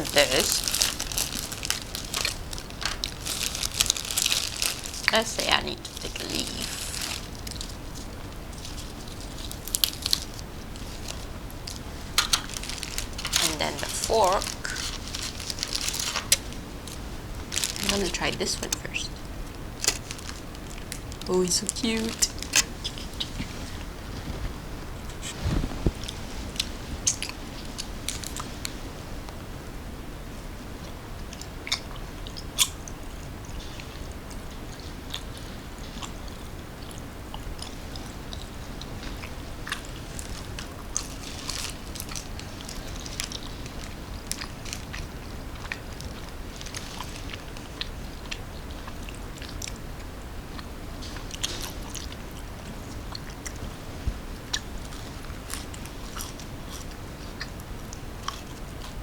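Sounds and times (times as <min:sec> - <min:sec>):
person chewing crunchy food: 0:00.0 - 0:05.2, 0:05.8 - 0:18.4, 0:19.1 - 0:21.3, 0:31.2 - 0:59.0
low background hum: 0:00.0 - 0:59.0.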